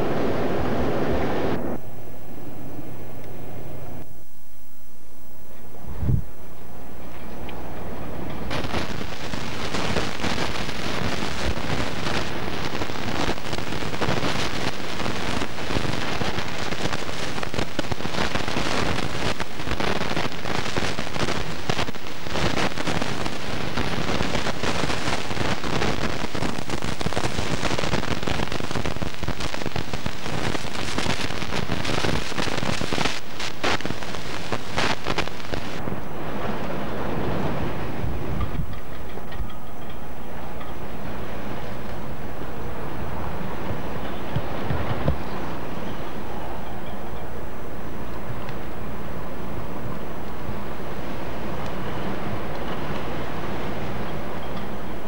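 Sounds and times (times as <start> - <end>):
strong wind on microphone: 0.0 - 55.0.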